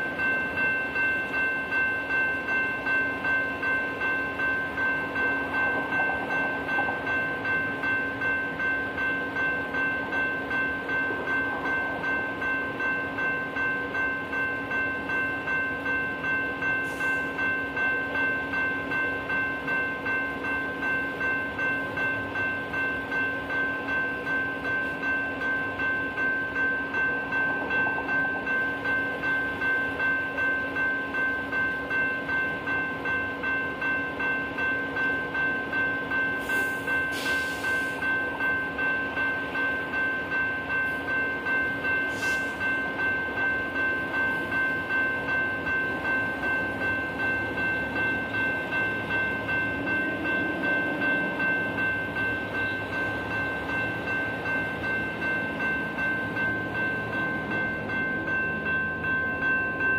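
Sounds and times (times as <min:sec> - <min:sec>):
railroad bell ringing: 0:00.0 - 0:59.9
train rumbling: 0:00.0 - 0:59.9.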